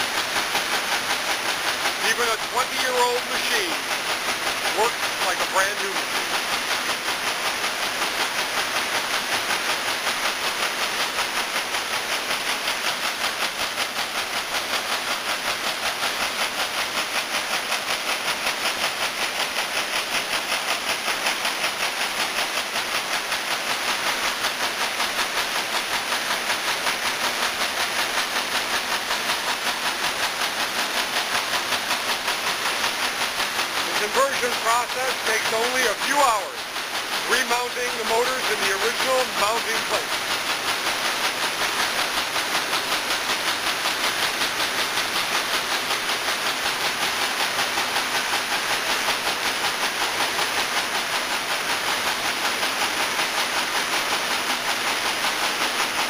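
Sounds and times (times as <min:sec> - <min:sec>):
quilting machine stitching: 0:11.0 - 0:56.0.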